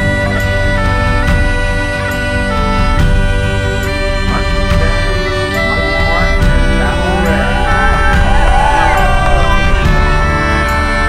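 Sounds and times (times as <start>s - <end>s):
background music with light beat: 0.0s - 11.0s.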